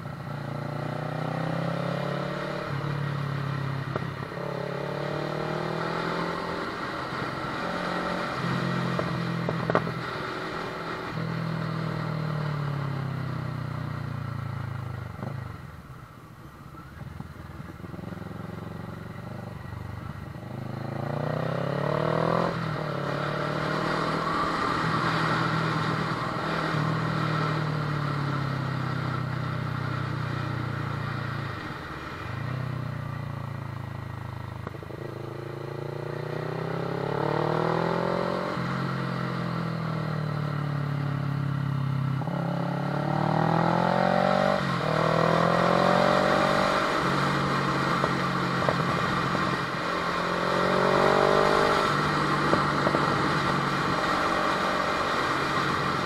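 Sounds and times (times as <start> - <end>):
motorcycle engine revving: 0.0 - 15.6, 16.9 - 56.0.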